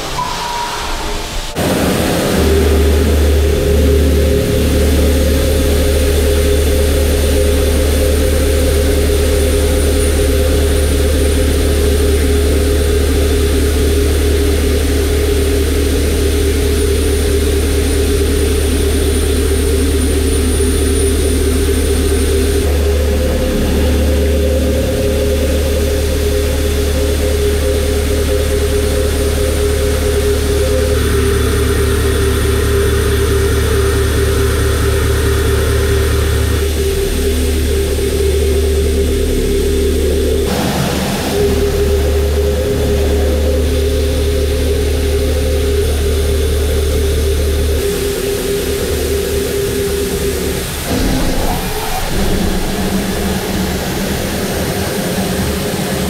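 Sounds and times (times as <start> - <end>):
milling machine humming: 0.9 - 56.0.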